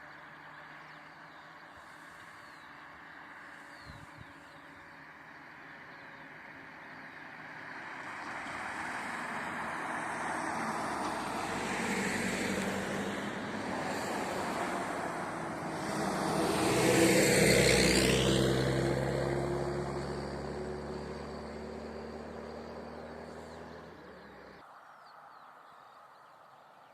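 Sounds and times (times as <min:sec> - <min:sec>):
vehicle passing by: 0:00.2 - 0:24.6.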